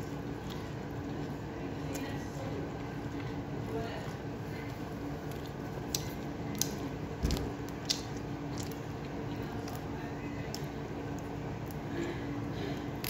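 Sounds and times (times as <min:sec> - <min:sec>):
wet chewing: 0:00.0 - 0:11.9
steady low hum: 0:00.0 - 0:13.0.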